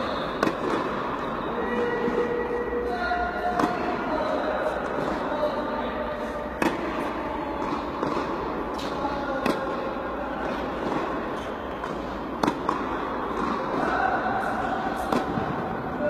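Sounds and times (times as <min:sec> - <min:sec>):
tennis racket hitting ball: 0:00.2 - 0:02.4, 0:03.4 - 0:16.0.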